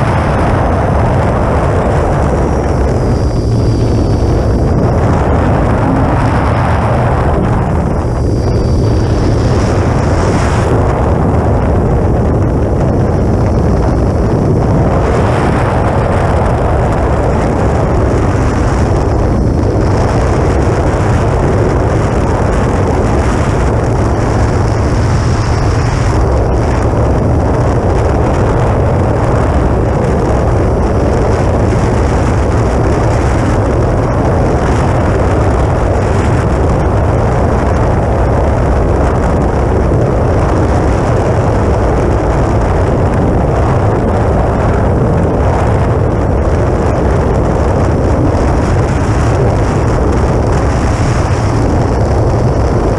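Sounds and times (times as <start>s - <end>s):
rush of air over camera: 0.0s - 52.9s.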